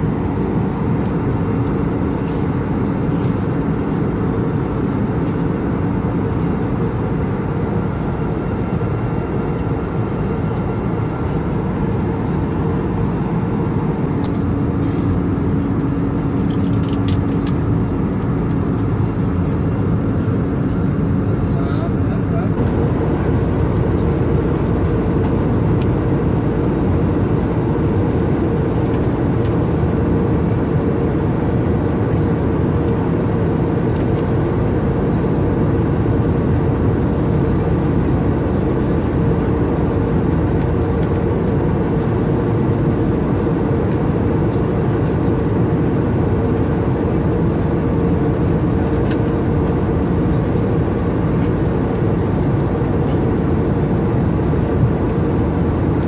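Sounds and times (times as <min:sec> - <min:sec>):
aircraft cabin engine drone: 0:00.0 - 0:56.0.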